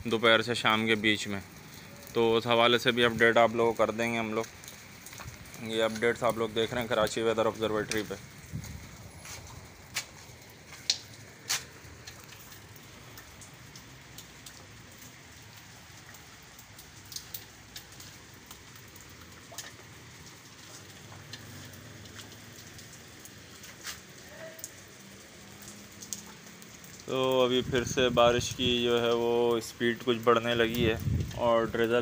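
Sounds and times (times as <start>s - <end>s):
light rain hissing: 0.0s - 32.0s
rain ticks: 0.0s - 32.0s.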